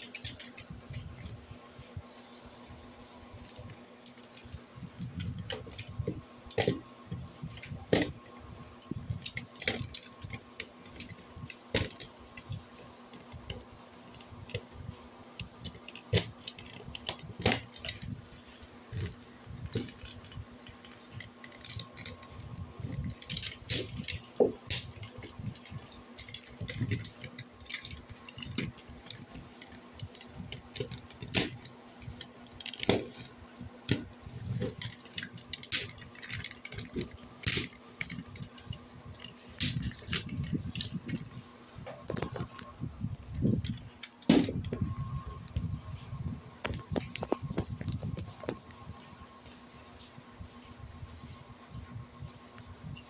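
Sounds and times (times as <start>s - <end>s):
plastic toy parts clicking: 0.0s - 1.4s, 3.4s - 41.4s, 42.0s - 45.8s.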